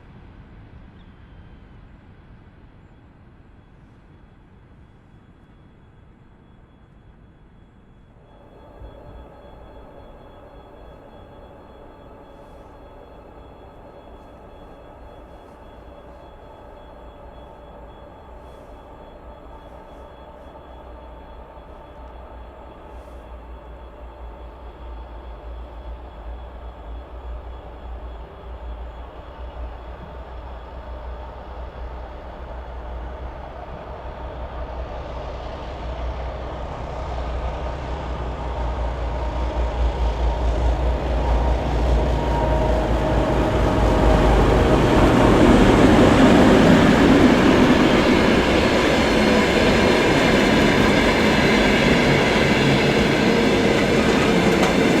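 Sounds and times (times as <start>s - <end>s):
diesel locomotive engine drone: 0.0s - 55.0s
train wheels running on rails: 3.6s - 55.0s.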